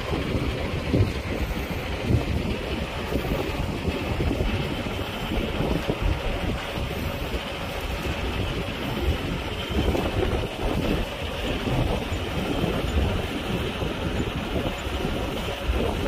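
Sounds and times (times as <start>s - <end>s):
heavy diesel machinery rumble: 0.0s - 16.0s
wind buffeting microphone: 0.0s - 16.0s.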